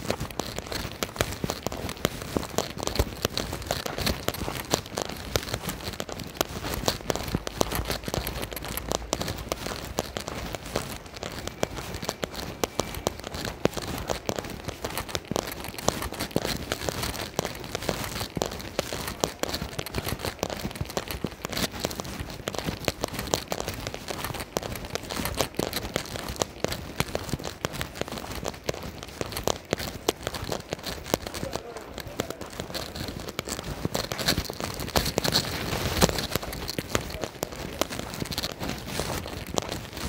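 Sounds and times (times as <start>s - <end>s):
raindrops ticking: 0.0s - 40.0s.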